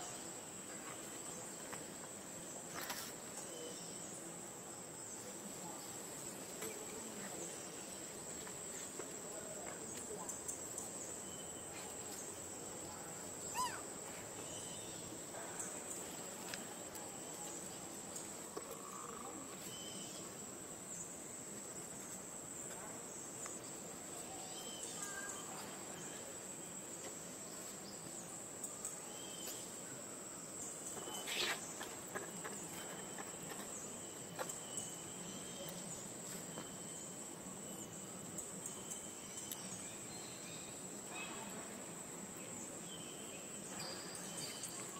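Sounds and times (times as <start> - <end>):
insects droning: 0.0 - 44.9
faint chirps: 5.0 - 21.2, 21.9 - 44.9.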